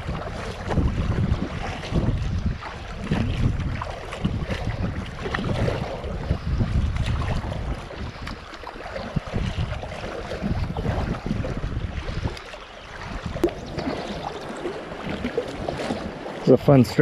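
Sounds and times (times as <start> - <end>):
paddle strokes dipping: 0.0 - 17.0
rushing splashing water: 0.0 - 17.0
wind rumble on microphone: 0.0 - 17.0.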